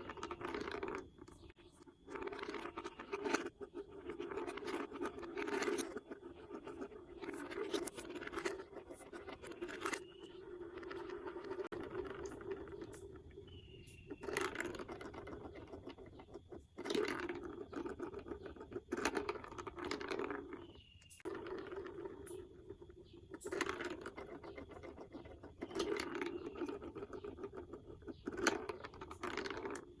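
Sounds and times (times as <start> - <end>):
marbles clicking and clattering: 0.0 - 30.0
marbles rolling on plastic track: 0.0 - 30.0.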